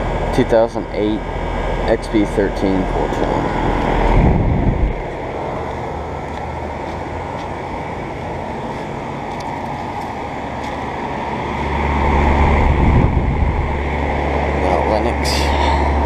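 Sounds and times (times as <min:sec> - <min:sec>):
compressor electrical hum: 0:00.0 - 0:16.0
condenser fan air rush: 0:00.0 - 0:16.0.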